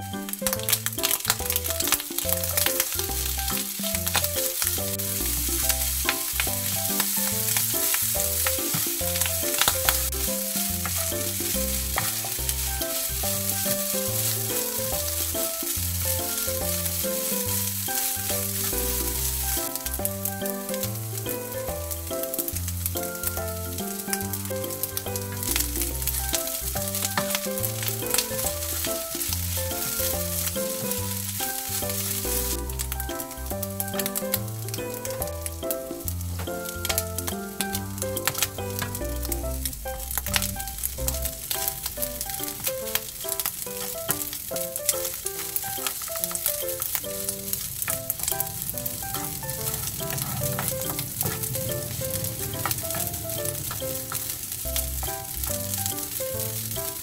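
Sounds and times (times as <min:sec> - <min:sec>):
background music: 0:00.0 - 0:57.0
rice sizzling in a frying pan: 0:00.0 - 0:57.0.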